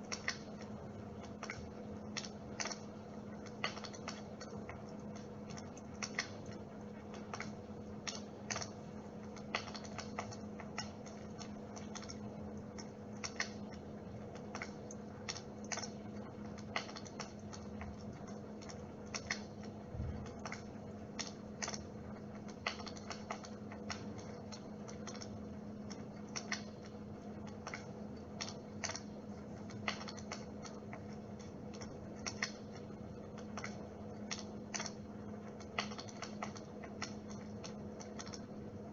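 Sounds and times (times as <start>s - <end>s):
electric fire humming: 0.0s - 38.9s
light crackling clicks: 0.0s - 38.9s.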